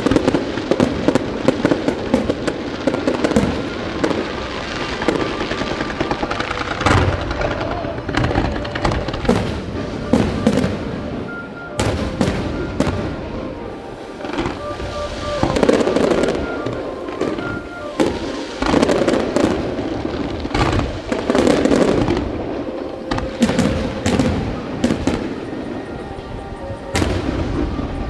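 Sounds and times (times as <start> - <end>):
fireworks cracking and booming: 0.0 - 28.0
music: 0.0 - 28.0.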